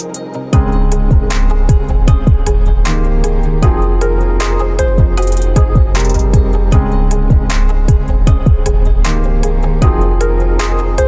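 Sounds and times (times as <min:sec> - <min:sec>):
melodic background music: 0:00.0 - 0:11.0
electronic kick drum: 0:00.6 - 0:11.0.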